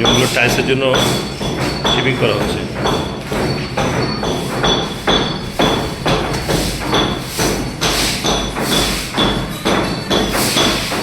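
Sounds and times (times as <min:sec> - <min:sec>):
hammer striking steel chisel: 0:00.0 - 0:11.0.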